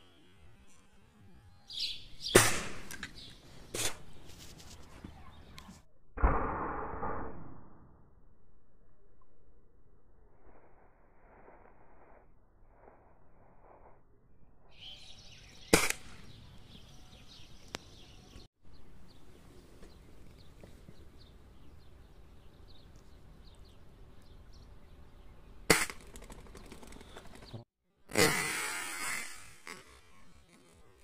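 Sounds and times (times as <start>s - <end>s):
faint outdoor background: 0.0s - 31.0s.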